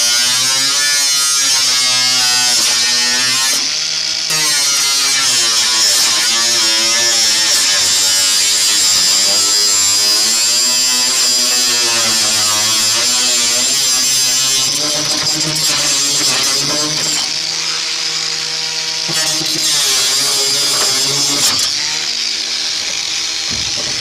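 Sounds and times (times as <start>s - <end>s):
angle grinder cutting metal: 0.0s - 24.0s.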